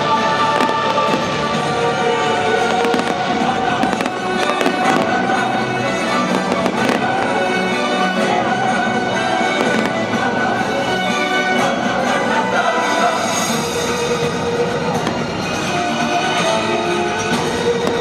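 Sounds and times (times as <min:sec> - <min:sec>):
loud music with held tones: 0:00.0 - 0:18.0
fireworks popping and crackling: 0:00.4 - 0:12.1, 0:13.4 - 0:16.5, 0:17.3 - 0:18.0.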